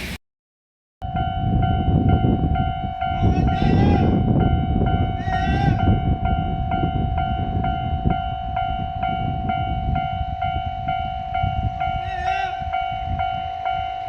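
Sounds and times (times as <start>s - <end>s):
level crossing alarm ringing: 1.0s - 14.0s
train rumbling: 1.0s - 14.0s.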